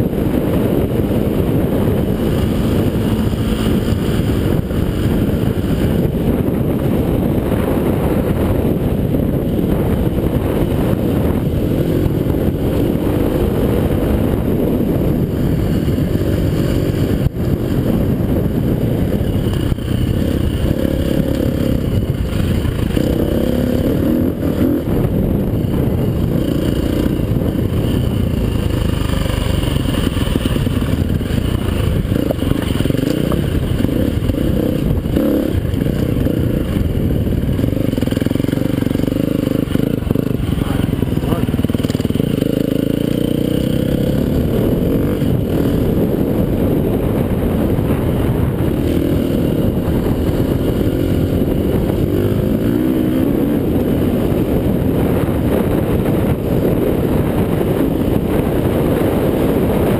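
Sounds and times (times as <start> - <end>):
motorcycle engine revving: 0.0 - 59.9
wind rumble: 0.0 - 59.9.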